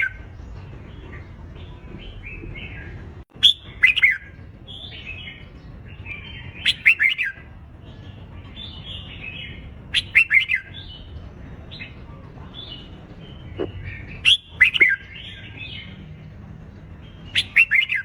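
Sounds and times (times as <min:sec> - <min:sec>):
bird song phrases: 0:00.0 - 0:18.0.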